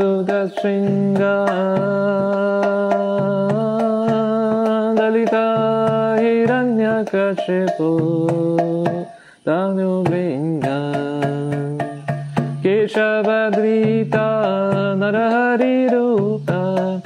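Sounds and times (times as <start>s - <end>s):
light percussion strikes: 0.0s - 17.0s
man chanting in held notes: 0.0s - 17.0s.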